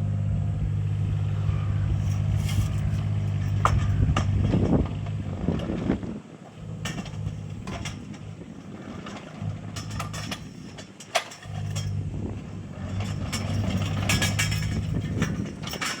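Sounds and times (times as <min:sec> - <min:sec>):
excavator diesel engine running: 0:00.0 - 0:16.0
metallic clanks and scrapes: 0:01.4 - 0:06.0, 0:06.6 - 0:16.0.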